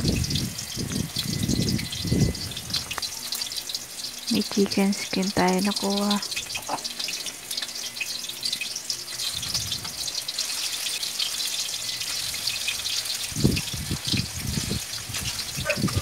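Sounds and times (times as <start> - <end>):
chicken sizzling in hot oil: 0.0 - 16.0
oil spattering crackles: 0.0 - 16.0.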